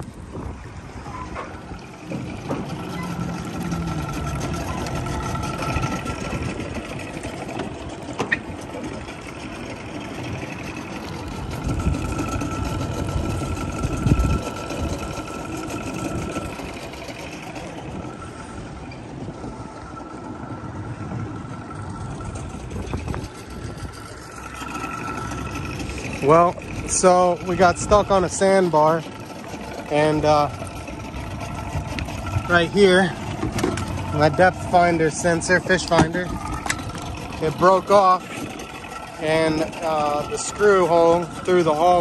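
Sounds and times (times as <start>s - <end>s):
motorboat engine running: 0.0s - 42.0s
thin steady whine: 0.0s - 42.0s.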